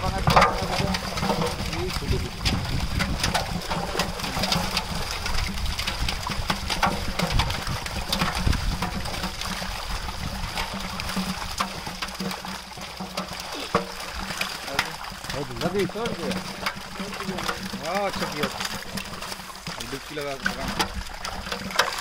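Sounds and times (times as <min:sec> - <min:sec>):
fish thrashing in water: 0:00.0 - 0:22.0
water splashing and sloshing: 0:00.0 - 0:22.0.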